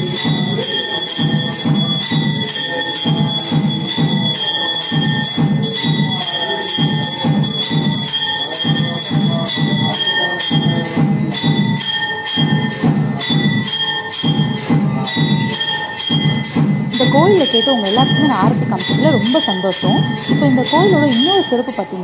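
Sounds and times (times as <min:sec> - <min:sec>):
temple bells ringing rapidly: 0:00.0 - 0:22.0.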